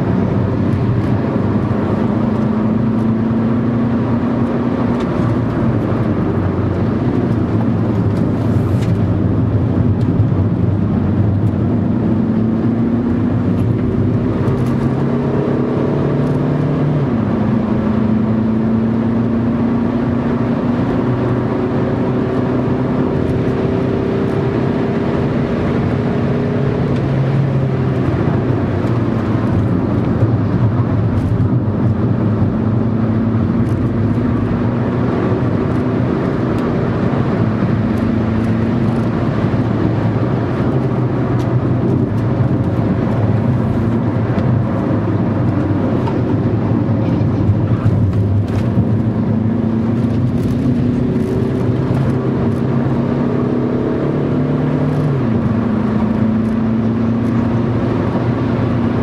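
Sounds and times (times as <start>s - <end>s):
car engine revving: 0.0s - 59.0s
tyre and road noise: 0.0s - 59.0s.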